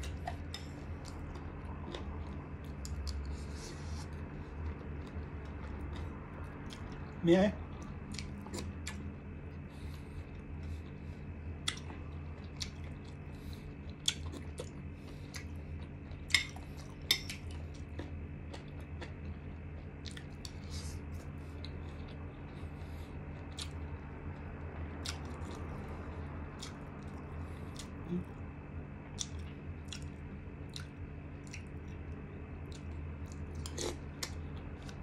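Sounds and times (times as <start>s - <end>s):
person chewing with wet mouth smacks: 0.0s - 28.4s, 29.0s - 35.0s
steady low hum: 0.0s - 35.0s.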